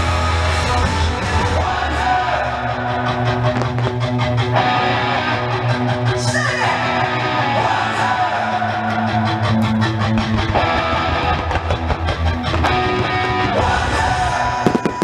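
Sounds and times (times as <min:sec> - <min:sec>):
music with steady beat: 0:02.2 - 0:15.0.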